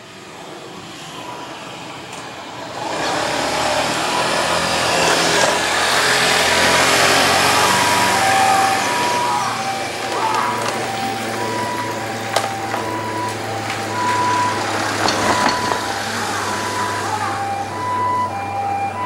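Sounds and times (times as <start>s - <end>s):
two-tone ambulance siren: 0.2s - 19.0s
motor scooter engine passing: 1.0s - 19.0s.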